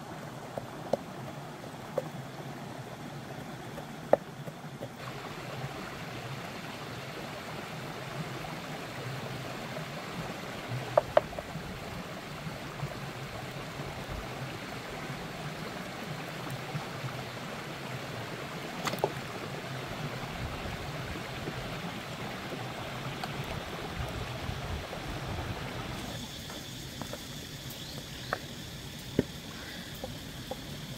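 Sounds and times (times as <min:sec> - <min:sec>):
rocky stream running: 0:00.0 - 0:30.9.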